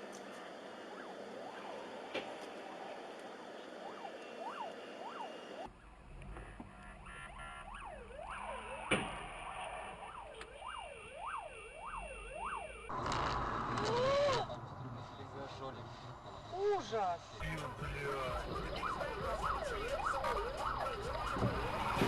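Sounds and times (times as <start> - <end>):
emergency siren wailing: 0.0 - 22.0.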